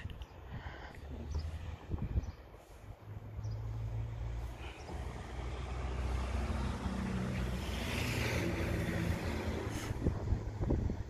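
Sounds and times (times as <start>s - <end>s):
higher engine tones: 0.9s - 10.6s.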